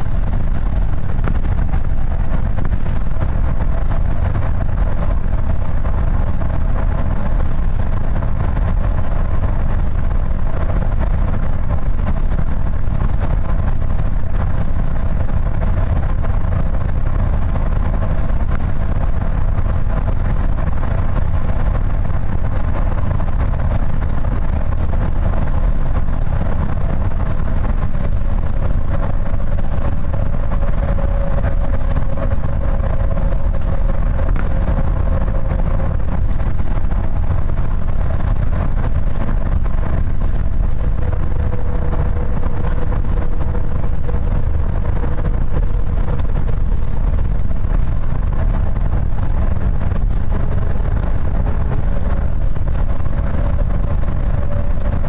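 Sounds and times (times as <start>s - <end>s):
bus engine and road rumble: 0.0s - 55.0s
steady drone: 0.0s - 55.0s.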